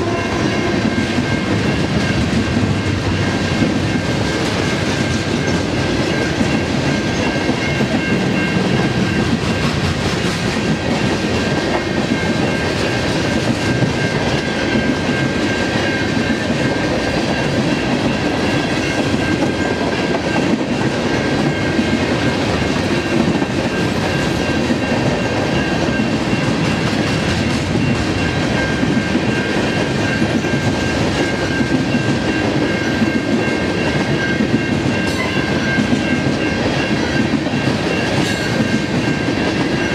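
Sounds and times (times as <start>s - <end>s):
train wheels clattering over rail joints: 0.5s - 39.9s.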